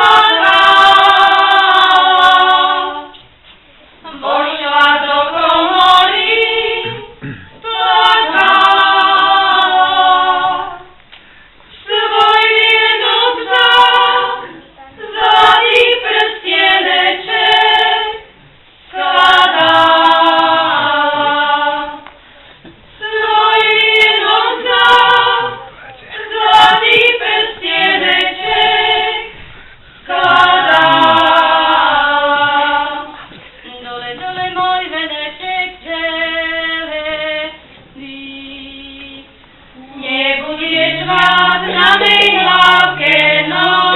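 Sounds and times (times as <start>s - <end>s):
women singing unaccompanied: 0.0s - 3.2s, 3.9s - 11.0s, 11.8s - 22.2s, 22.9s - 29.4s, 30.1s - 43.9s.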